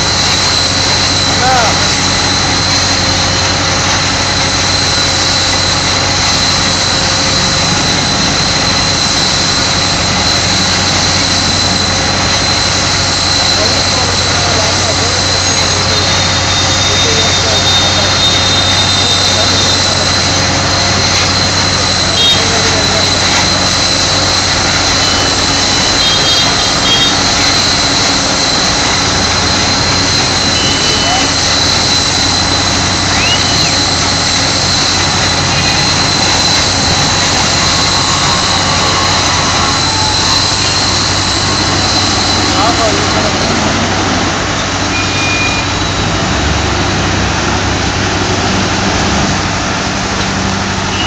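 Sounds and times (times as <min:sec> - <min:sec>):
high whine over low hum: 0:00.0 - 0:51.0
loud rush of air: 0:00.0 - 0:51.0
patching machine blower running: 0:00.0 - 0:51.0.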